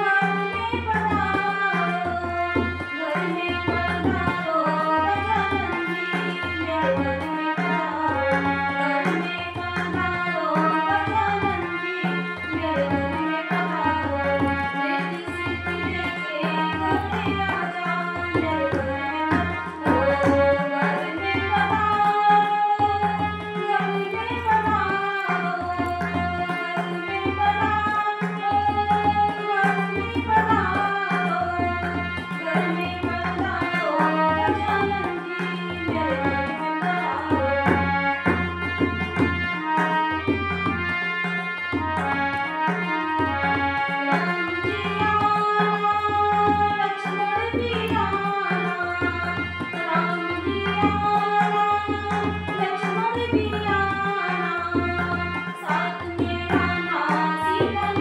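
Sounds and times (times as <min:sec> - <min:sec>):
harmonium: 0:00.0 - 0:58.0
tabla beat: 0:00.0 - 0:58.0
woman singing devotional song: 0:00.0 - 0:58.0.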